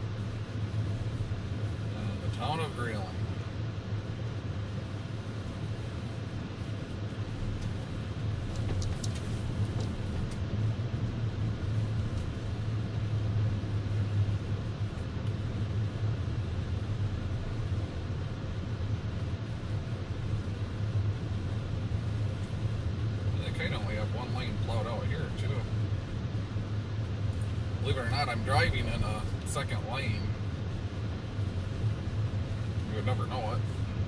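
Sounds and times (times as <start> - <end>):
car engine and tyre drone: 0.0 - 34.0.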